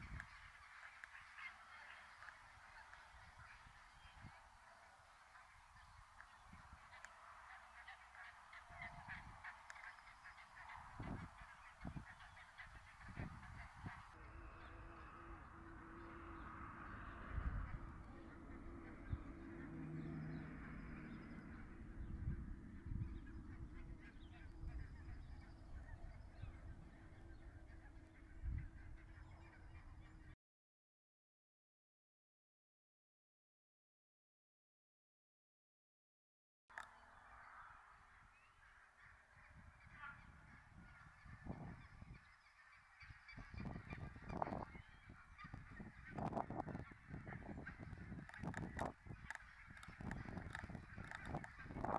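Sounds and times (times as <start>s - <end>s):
low wind rumble on microphone: 0.0s - 1.1s, 1.8s - 30.4s, 37.2s - 51.9s
distant bird calls: 0.0s - 30.4s, 36.7s - 51.9s
geese honking: 0.0s - 30.4s, 36.8s - 51.9s.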